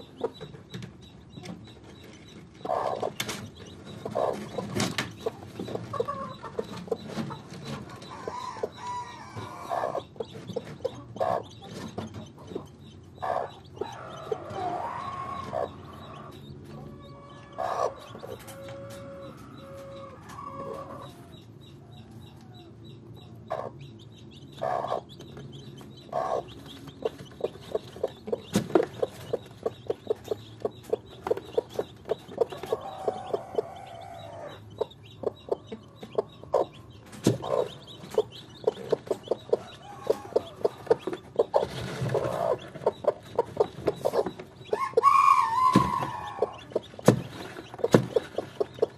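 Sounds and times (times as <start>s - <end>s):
hen clucking softly: 1.3s - 48.9s.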